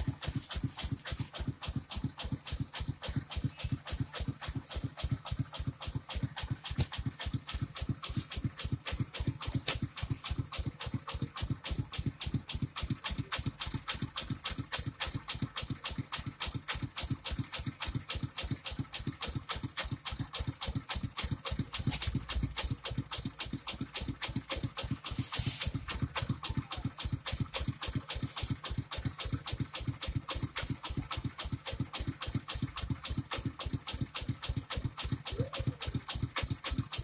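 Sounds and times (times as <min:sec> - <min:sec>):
engine chugging: 0:00.0 - 0:37.0.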